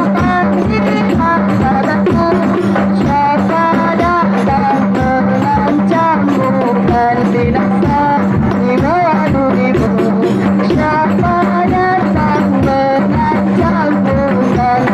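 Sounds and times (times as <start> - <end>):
drum beat: 0.0 - 14.9
woman singing devotional song: 0.0 - 14.9.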